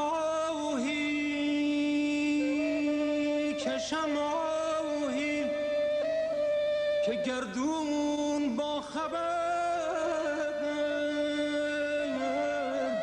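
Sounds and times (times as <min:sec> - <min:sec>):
reed flute melody: 0:00.0 - 0:13.0.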